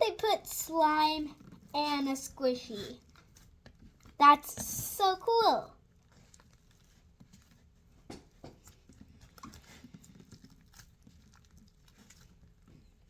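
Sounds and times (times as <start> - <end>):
sticky slime squelching: 0.0 - 13.0.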